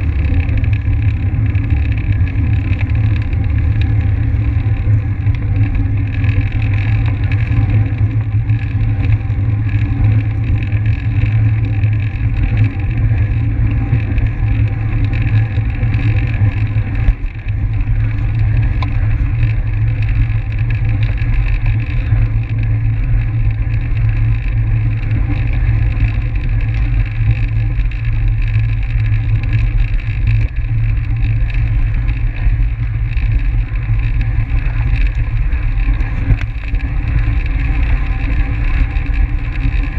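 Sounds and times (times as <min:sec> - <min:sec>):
bike wheels humming on track: 0:00.0 - 0:39.9
wind rush on microphone: 0:00.0 - 0:39.9.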